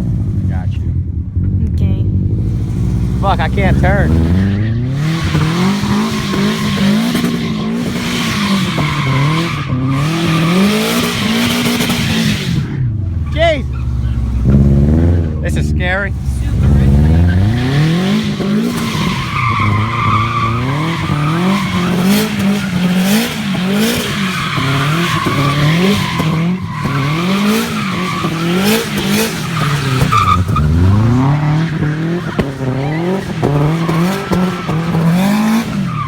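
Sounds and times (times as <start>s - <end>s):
turbocharged engine revving: 0.0s - 36.0s
tyres squealing: 2.4s - 36.0s.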